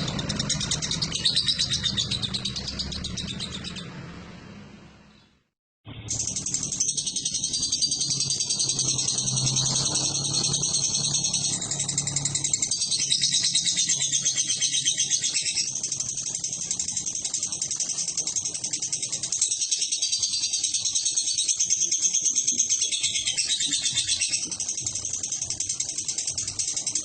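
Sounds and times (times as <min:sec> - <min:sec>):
lovebird chattering trill: 0:00.0 - 0:03.9, 0:05.9 - 0:27.0.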